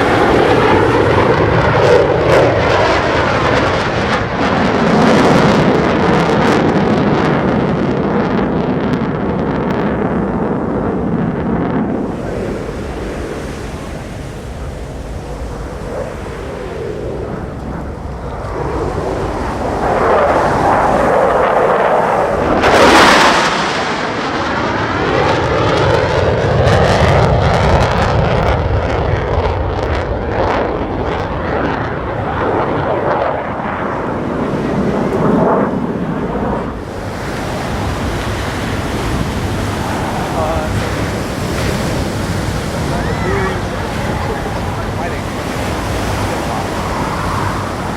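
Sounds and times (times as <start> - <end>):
surf: 0.0 - 28.5, 31.6 - 47.9
jets flying past: 0.0 - 47.9
wind: 0.0 - 47.9.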